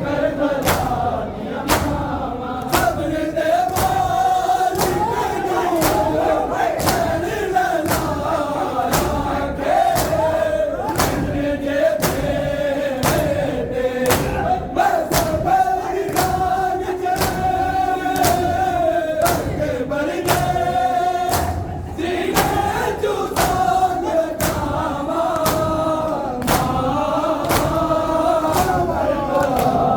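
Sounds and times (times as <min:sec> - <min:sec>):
men chanting in unison: 0:00.0 - 0:29.9
hands beating chests: 0:00.6 - 0:29.9.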